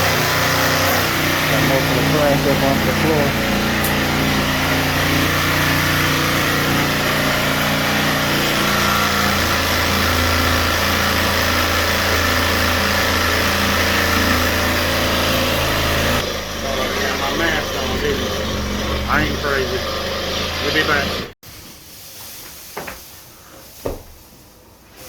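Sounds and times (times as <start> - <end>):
small electric motor humming: 0.0 - 21.3.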